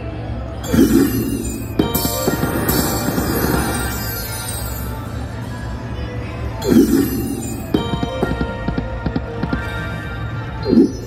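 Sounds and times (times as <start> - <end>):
slot machine swelling sound effect: 0.6 - 5.1, 6.6 - 11.0
jingling game music: 0.6 - 5.4, 6.6 - 11.0.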